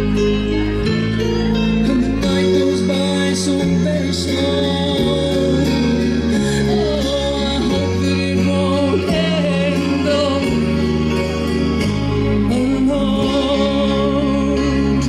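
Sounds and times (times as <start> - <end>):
power ballad over pa: 0.0 - 15.0
person singing with vibrato: 0.9 - 15.0.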